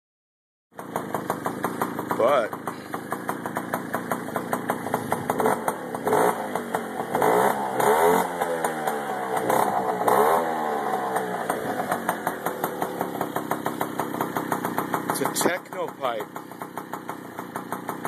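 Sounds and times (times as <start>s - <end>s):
moped engine idling and revving: 0.8s - 18.0s.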